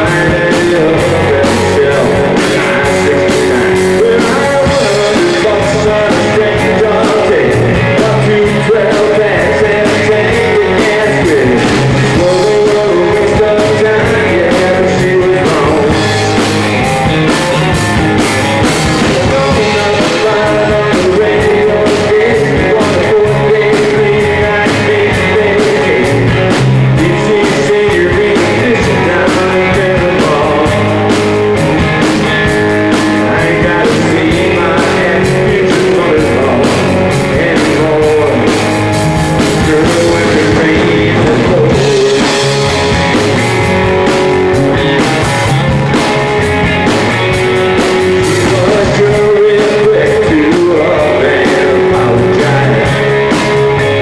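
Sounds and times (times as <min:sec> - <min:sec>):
live country band playing: 0:00.0 - 0:54.0
person singing lead vocal: 0:00.0 - 0:54.0.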